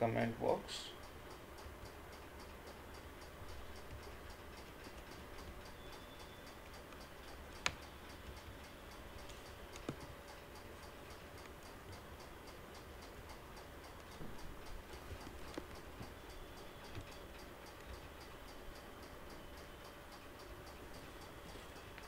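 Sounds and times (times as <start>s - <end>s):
faint even ticking: 0.0s - 22.0s
low background hum and hiss: 0.0s - 22.0s
sharp clicks: 1.0s - 22.0s.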